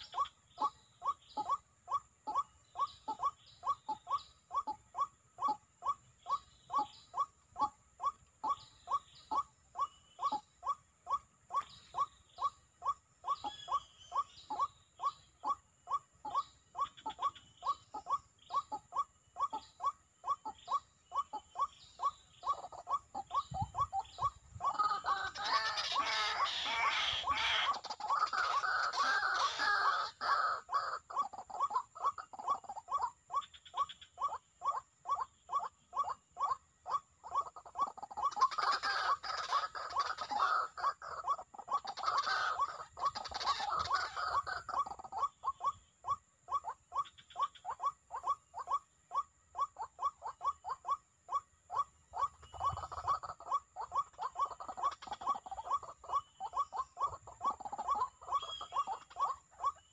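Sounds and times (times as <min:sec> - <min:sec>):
bird croaking calls: 0:00.0 - 0:59.9.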